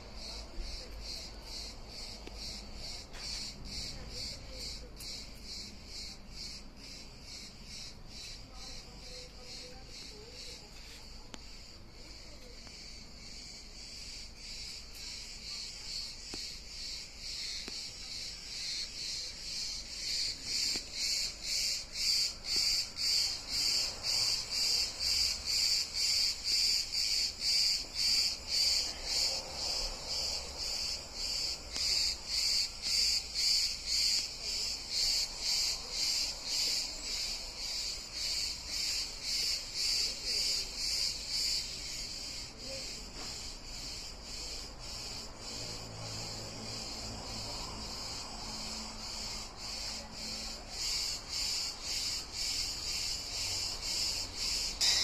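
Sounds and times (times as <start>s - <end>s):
insects chirping in pulses: 0.0s - 55.0s.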